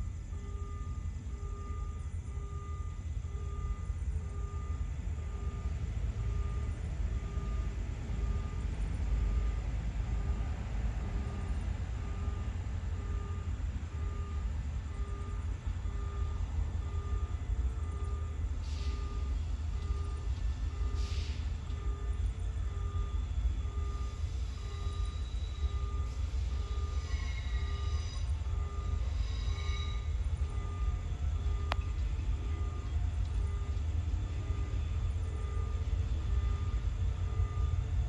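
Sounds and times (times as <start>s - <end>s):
diesel train rumble: 0.0s - 38.0s
electronic warning beeps: 0.1s - 38.0s.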